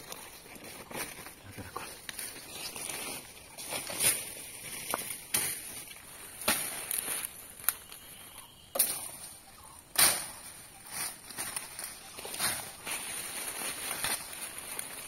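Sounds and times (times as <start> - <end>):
footsteps crunching through dry leaves: 0.0 - 15.0.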